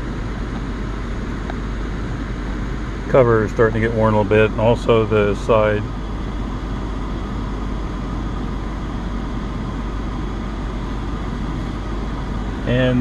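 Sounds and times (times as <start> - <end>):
car climate blower rushing: 0.0 - 13.0
constant low hum: 0.0 - 13.0.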